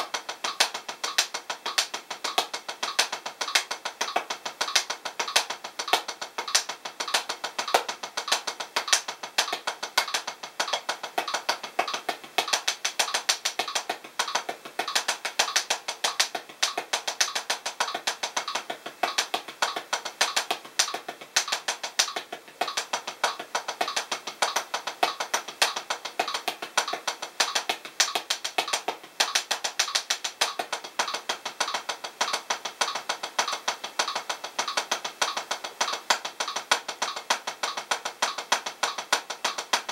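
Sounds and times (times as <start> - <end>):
drumsticks tapping on practice pad: 0.0 - 39.9.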